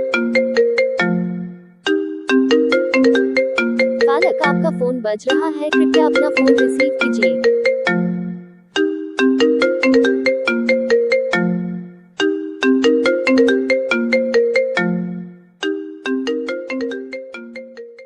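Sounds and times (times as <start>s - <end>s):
phone ringtone melody: 0.0s - 18.0s.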